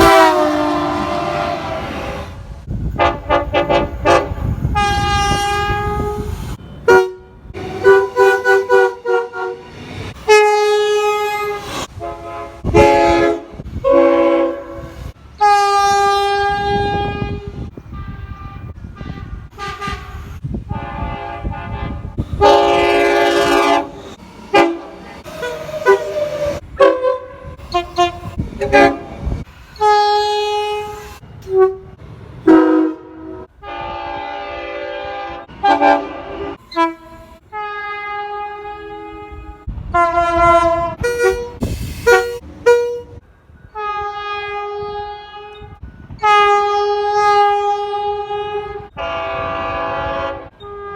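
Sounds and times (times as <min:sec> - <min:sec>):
locomotive air horn blasts: 0:00.0 - 0:50.9.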